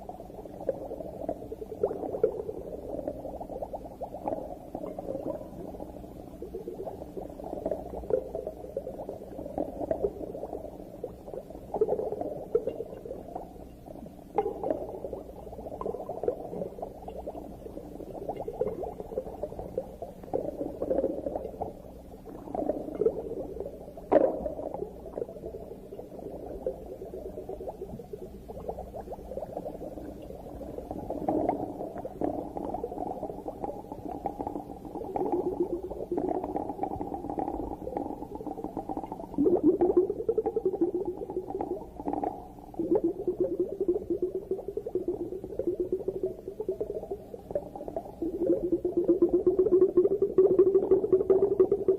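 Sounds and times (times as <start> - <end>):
underwater bubbling and crackling: 0.0 - 51.9.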